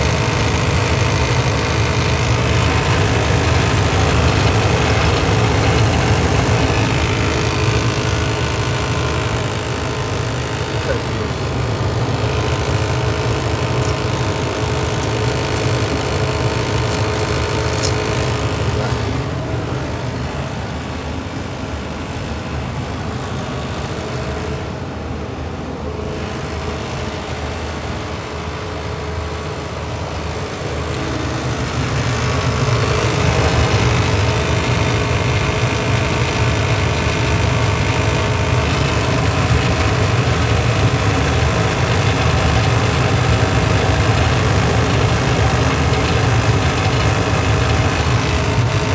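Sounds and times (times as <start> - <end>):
furnace fan humming: 0.0 - 48.9.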